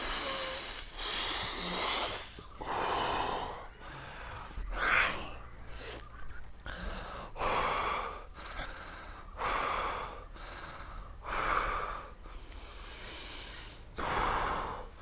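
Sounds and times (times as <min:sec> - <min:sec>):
man breathing heavily: 0:00.0 - 0:06.0, 0:06.6 - 0:15.0.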